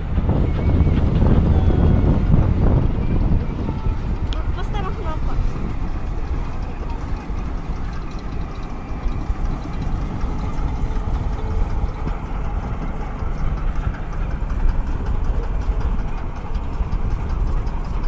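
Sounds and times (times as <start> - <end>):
locomotive engine rumbling: 0.0 - 18.0.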